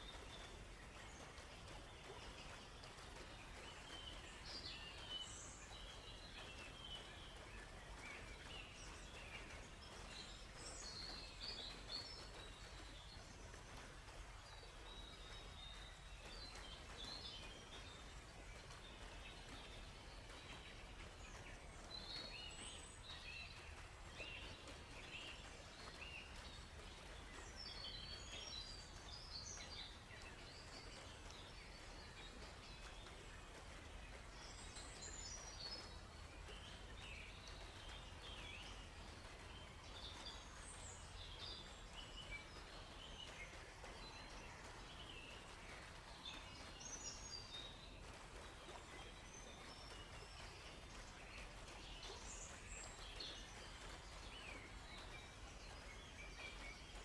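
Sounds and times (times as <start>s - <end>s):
forest birds chirping: 0.0s - 57.0s.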